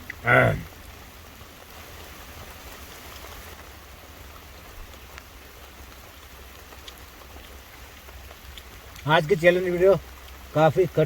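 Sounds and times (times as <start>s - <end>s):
rain pattering on car: 0.0s - 11.0s.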